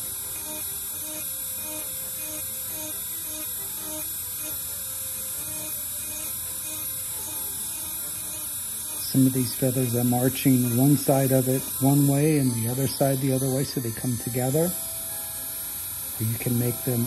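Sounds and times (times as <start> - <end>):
rotary carving tool whining: 0.0 - 17.0.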